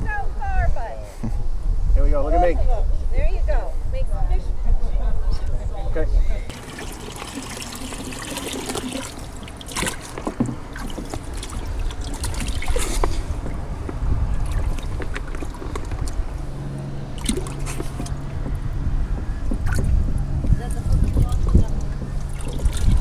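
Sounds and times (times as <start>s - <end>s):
wind on microphone: 0.0s - 6.5s, 10.2s - 23.0s
boat engine rumbling: 2.7s - 23.0s.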